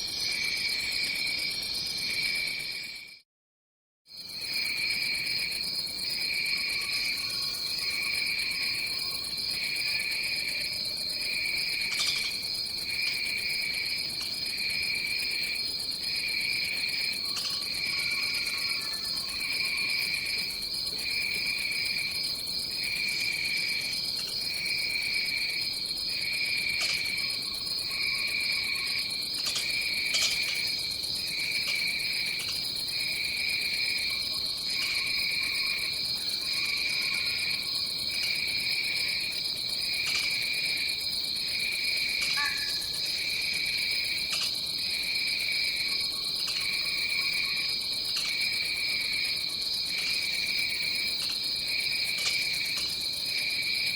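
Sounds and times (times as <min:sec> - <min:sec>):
pulsing insect chirr: 0:04.4 - 0:53.9
high-pitched insect trill: 0:04.5 - 0:53.9.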